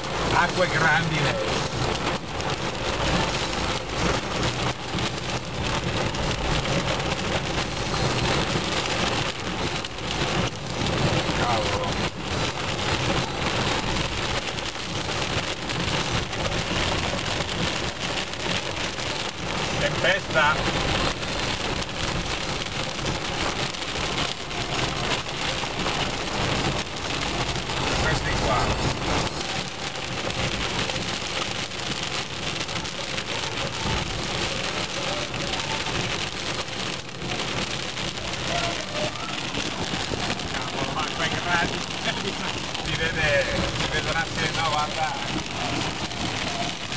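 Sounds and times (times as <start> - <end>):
heavy rain on car roof: 0.0 - 46.9.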